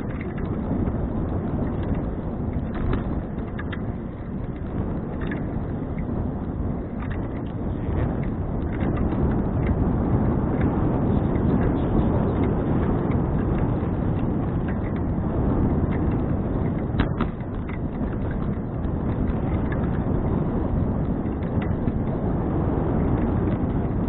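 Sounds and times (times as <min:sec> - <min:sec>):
tyres rumbling on road: 0:00.0 - 0:24.0
wind on microphone: 0:00.0 - 0:24.0.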